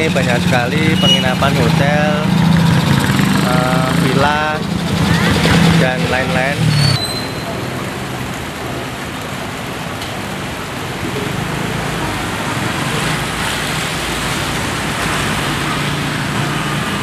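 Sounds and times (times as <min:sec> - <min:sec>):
street traffic engines humming: 0:00.0 - 0:17.0.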